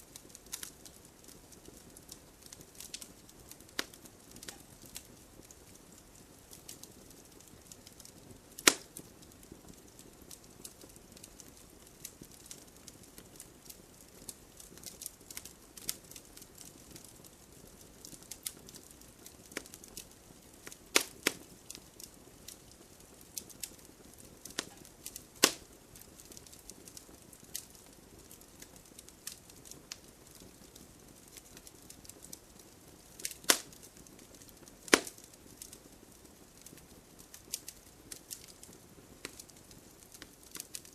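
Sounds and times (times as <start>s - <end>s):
burning wood popping: 0.0s - 40.9s
campfire crackling: 0.0s - 40.9s.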